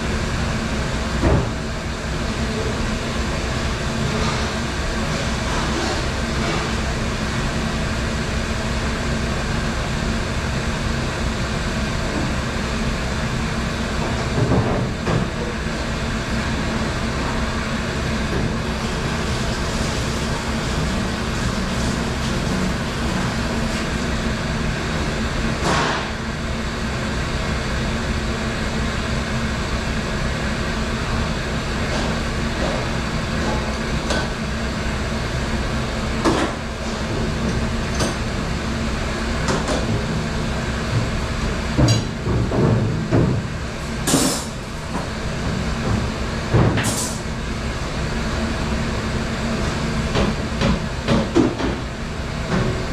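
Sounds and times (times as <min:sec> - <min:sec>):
dishwasher machinery humming: 0:00.0 - 0:52.9.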